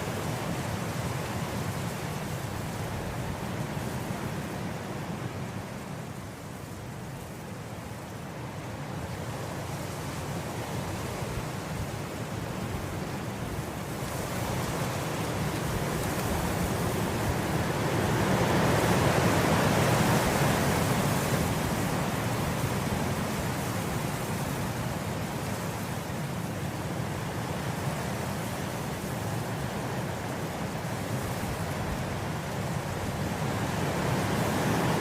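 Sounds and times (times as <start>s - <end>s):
wind blowing through grass: 0.0s - 35.0s.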